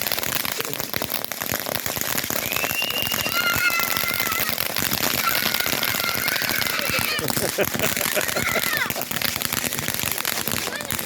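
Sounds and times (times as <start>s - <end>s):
firework crackling: 0.0s - 11.0s
high firework whistles: 0.0s - 11.0s.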